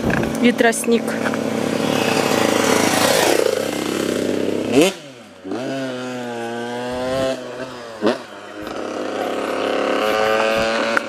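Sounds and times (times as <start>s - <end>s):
engine running and revving: 0.0s - 11.0s.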